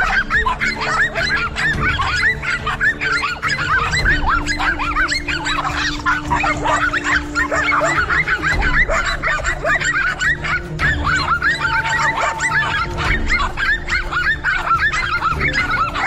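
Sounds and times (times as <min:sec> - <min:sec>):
honking animal calls: 0:00.0 - 0:16.0.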